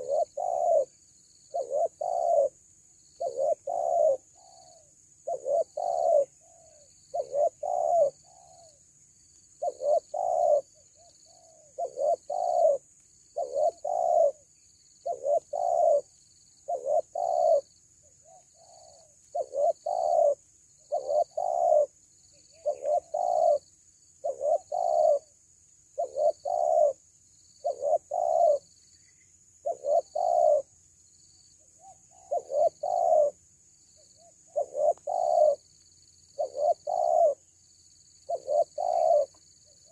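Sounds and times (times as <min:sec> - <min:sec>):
dove cooing: 0:00.0 - 0:02.6, 0:03.2 - 0:08.8, 0:09.6 - 0:25.4, 0:26.0 - 0:27.0, 0:27.6 - 0:28.7, 0:29.6 - 0:30.8, 0:31.6 - 0:33.4, 0:34.0 - 0:37.5, 0:38.2 - 0:39.9.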